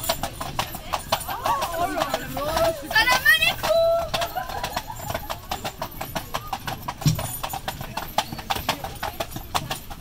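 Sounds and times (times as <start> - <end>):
horse hooves on paved road: 0.0 - 10.0.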